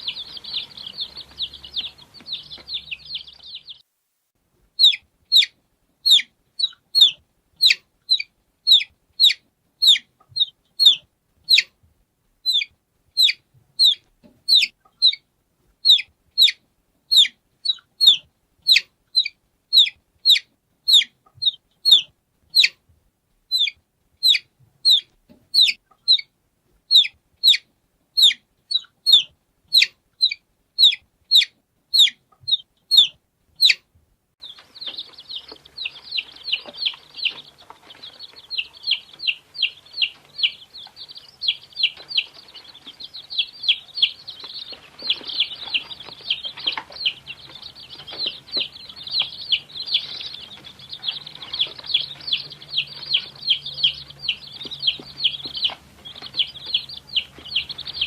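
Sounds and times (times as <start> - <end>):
chicks peeping: 0.0 - 3.8, 4.7 - 11.8, 12.4 - 22.9, 23.5 - 58.0
faint background noise: 0.0 - 58.0.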